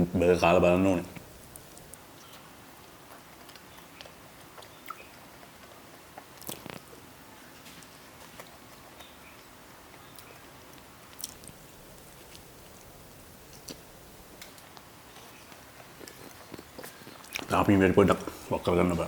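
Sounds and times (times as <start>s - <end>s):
person chewing food: 1.2s - 18.6s.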